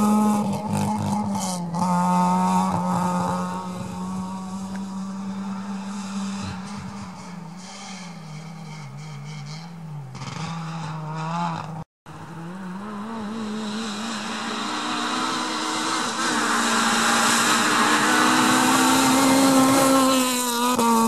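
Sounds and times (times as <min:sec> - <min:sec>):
rally car engine at high revs: 0:00.0 - 0:21.0.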